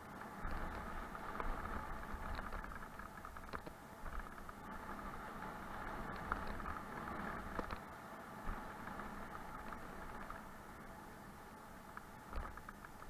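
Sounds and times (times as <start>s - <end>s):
bike knocking and rattling on stones: 0.0s - 10.7s, 11.8s - 13.0s
bike tyres rumbling over gravel: 0.0s - 13.0s.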